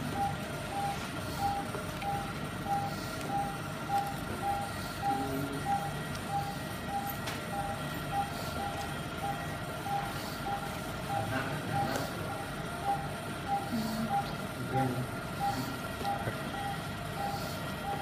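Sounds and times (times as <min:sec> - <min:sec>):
patient monitor beeping: 0:00.0 - 0:18.0
steady equipment hum and hiss: 0:00.0 - 0:18.0.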